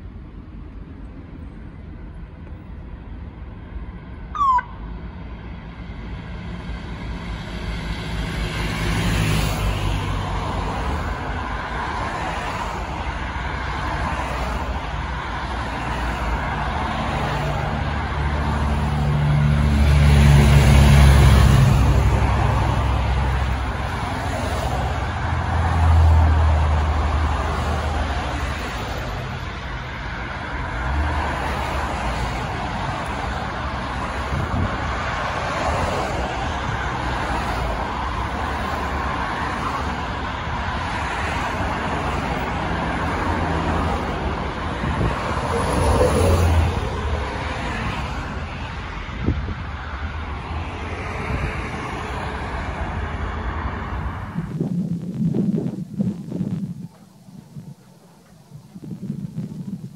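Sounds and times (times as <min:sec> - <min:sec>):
motorway traffic passing: 0:00.0 - 0:59.9.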